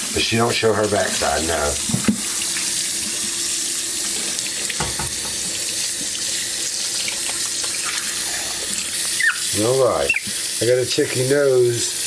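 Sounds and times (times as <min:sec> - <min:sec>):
tap water running into bath: 0:00.0 - 0:12.0.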